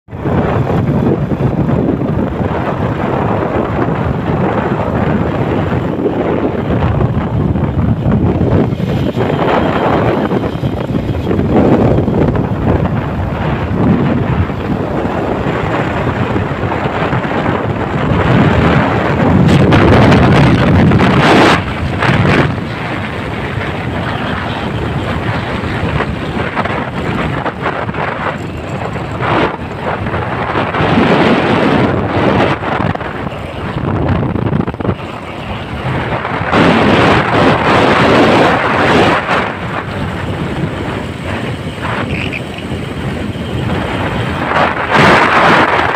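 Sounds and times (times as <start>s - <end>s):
motorcycle vehicle noise: 0.0s - 45.9s
wind rushing over microphone: 0.1s - 45.9s.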